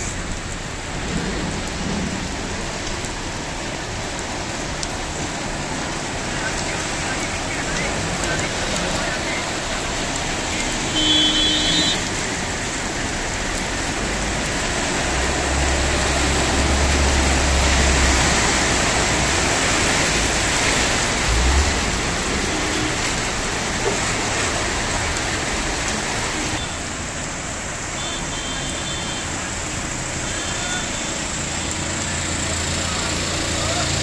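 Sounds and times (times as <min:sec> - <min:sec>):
car ploughing through floodwater: 0:00.0 - 0:34.0
heavy rain and moving water: 0:00.0 - 0:34.0.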